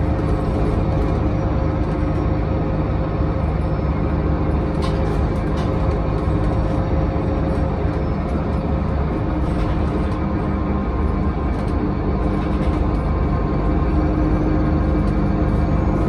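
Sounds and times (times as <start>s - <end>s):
bus engine and road rumble: 0.0s - 16.0s
drivetrain whine: 0.0s - 16.0s.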